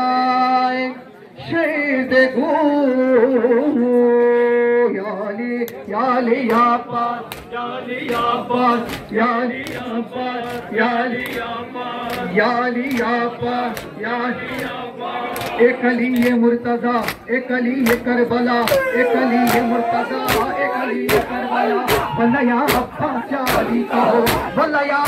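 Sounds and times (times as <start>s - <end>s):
voices chanting lament: 0.0s - 25.0s.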